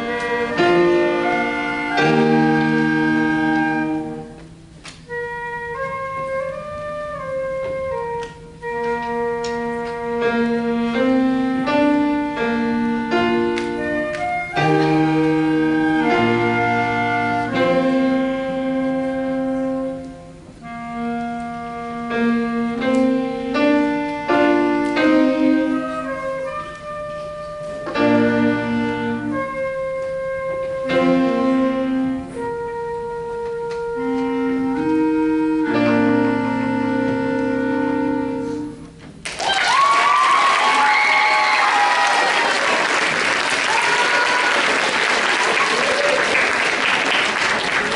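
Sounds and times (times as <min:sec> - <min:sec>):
wind ensemble playing slow chords: 0:00.0 - 0:39.0
piano accompaniment: 0:00.0 - 0:39.3.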